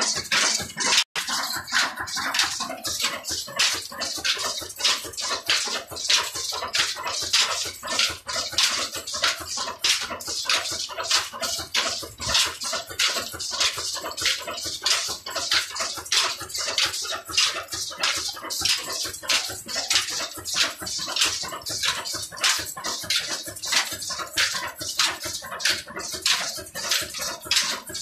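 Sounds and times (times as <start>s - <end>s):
diesel engine puffing rhythmically: 0.0s - 28.0s.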